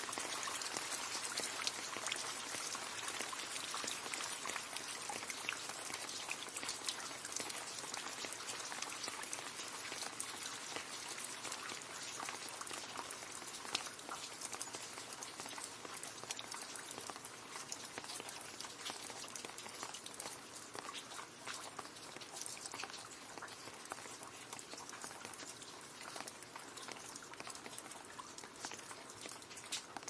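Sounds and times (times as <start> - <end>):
rain splashing into puddle: 0.0 - 30.0.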